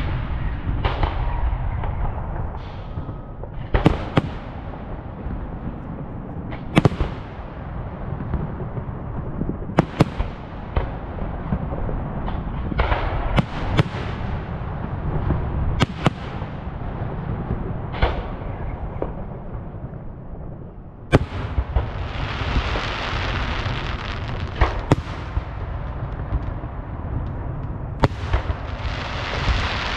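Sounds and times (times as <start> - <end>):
steady low rumble: 0.0 - 29.9.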